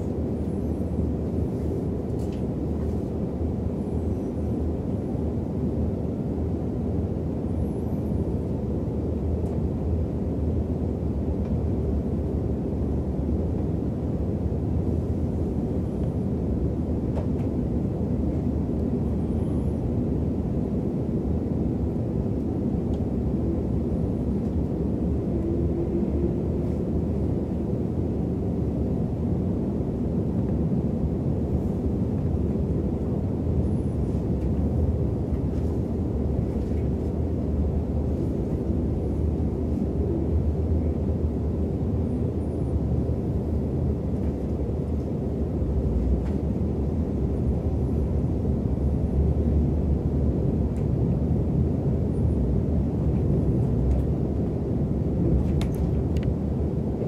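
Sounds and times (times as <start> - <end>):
train coach rumble: 0.0 - 57.0.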